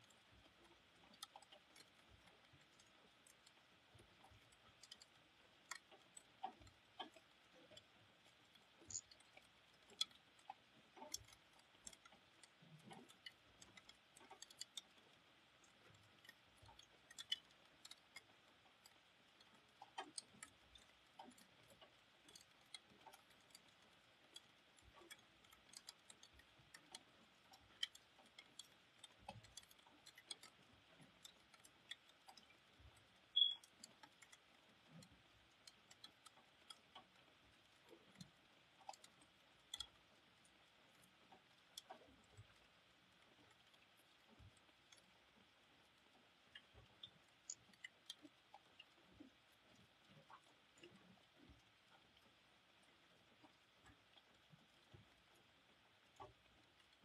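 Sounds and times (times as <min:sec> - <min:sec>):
raindrops ticking on hard surfaces: 0:00.0 - 0:57.0.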